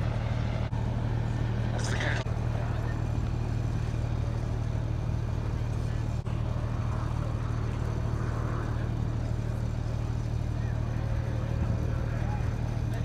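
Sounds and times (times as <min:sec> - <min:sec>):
propeller plane engines droning: 0:00.0 - 0:13.0
faint crowd chatter: 0:01.0 - 0:13.0.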